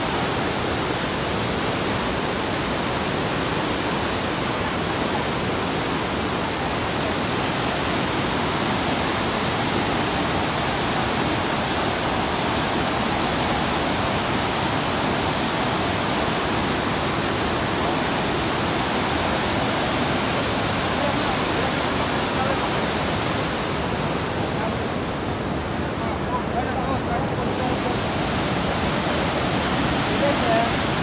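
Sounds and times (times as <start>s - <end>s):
river rushing over weir: 0.0s - 31.0s.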